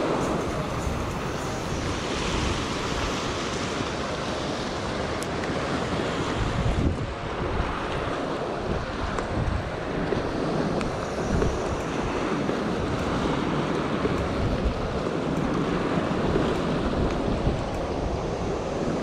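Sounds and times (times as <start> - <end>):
surf splashing against rocks: 0.0 - 19.0
wind rumbling on microphone: 0.0 - 19.0.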